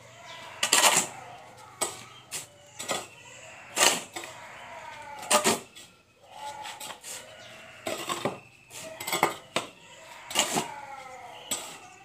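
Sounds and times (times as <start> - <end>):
metal tools striking hard ground: 0.3 - 7.1, 7.7 - 12.0.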